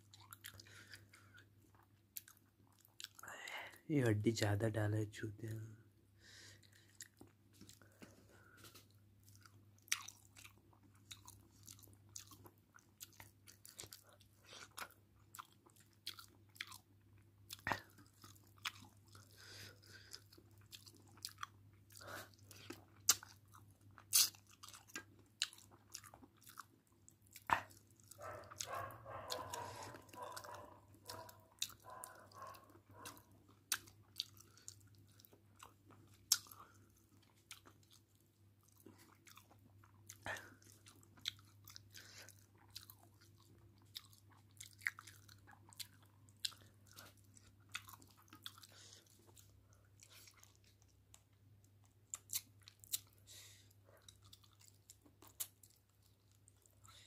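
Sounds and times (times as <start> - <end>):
wet squishes of kneading food: 0.0 - 4.2, 6.2 - 57.0.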